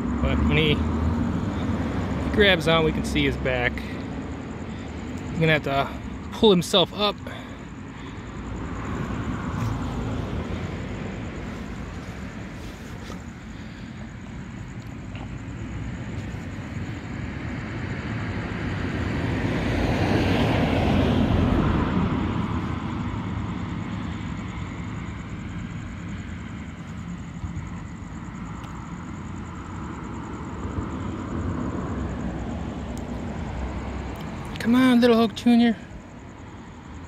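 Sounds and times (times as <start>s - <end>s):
distant vehicle passing: 0.0s - 37.0s.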